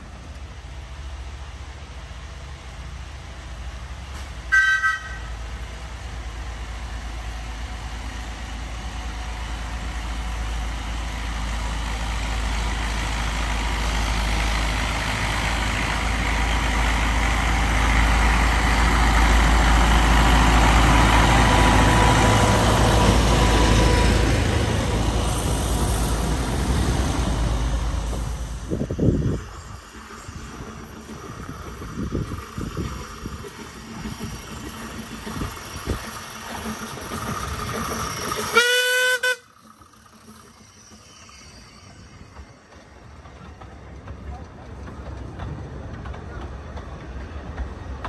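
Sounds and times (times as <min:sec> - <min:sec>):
diesel locomotive passing: 0:00.0 - 0:48.0.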